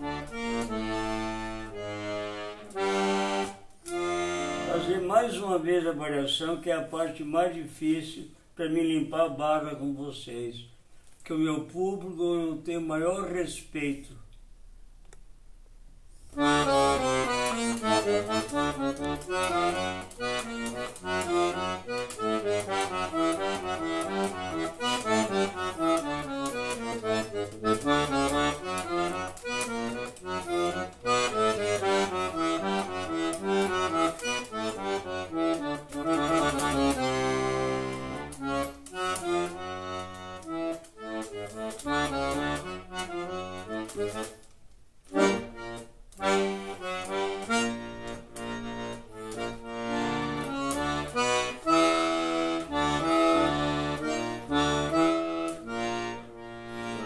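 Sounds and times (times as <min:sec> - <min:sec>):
accordion playing: 0:00.0 - 0:07.6, 0:16.2 - 0:57.0.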